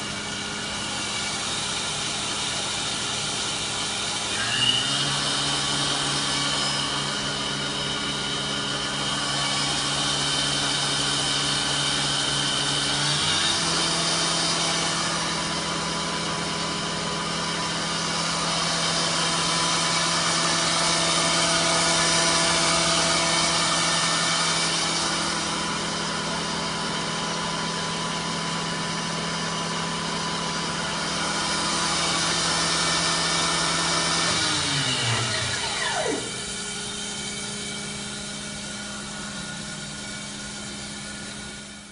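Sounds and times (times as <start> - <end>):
machine spindle humming with hiss: 0.0 - 27.4, 30.6 - 41.8.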